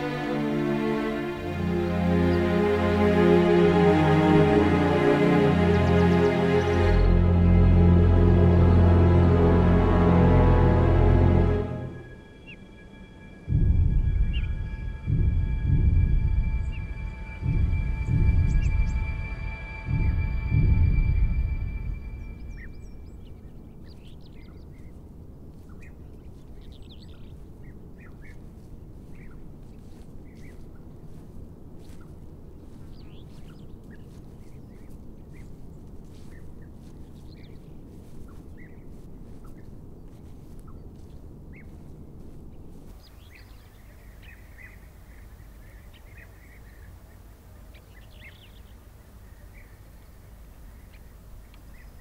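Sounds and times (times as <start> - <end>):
small birds chirping: 0.0 - 9.4, 12.1 - 52.0
low outdoor rumble: 0.0 - 52.0.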